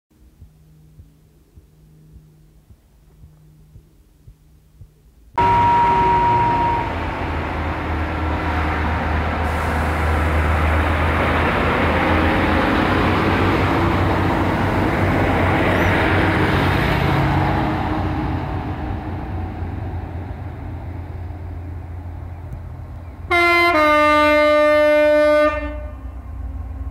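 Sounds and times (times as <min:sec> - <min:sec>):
diesel train engine drone: 0:00.1 - 0:26.9
train wheel and rail noise: 0:05.4 - 0:26.9.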